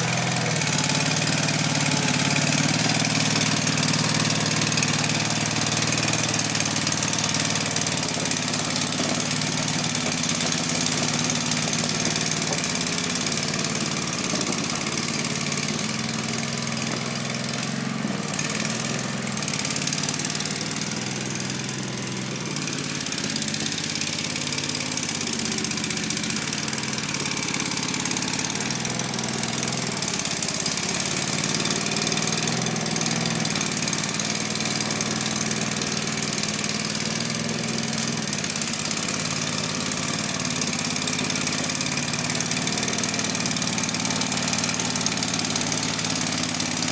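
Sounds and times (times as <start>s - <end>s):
loader engine running under load: 0.0s - 46.9s.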